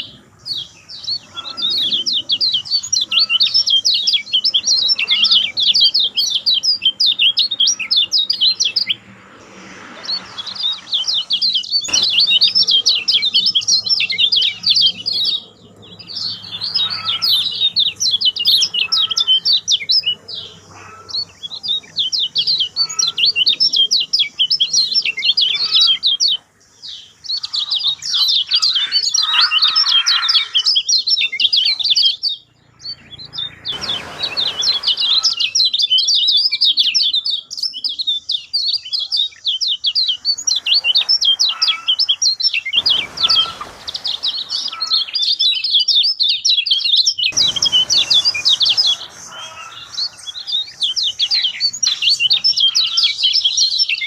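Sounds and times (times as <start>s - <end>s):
bird singing high chirping notes: 0.0s - 54.0s.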